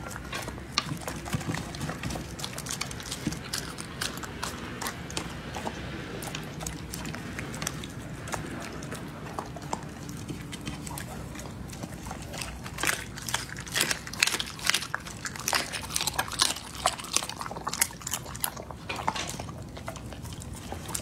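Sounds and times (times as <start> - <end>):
dog chewing and licking: 0.0 - 21.0.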